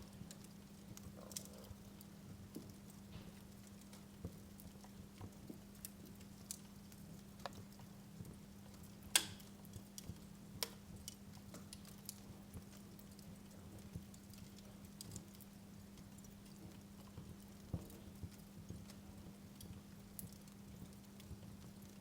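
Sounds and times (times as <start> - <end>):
faint steady hum: 0.0 - 22.0
wood fire crackling and popping: 0.0 - 22.0.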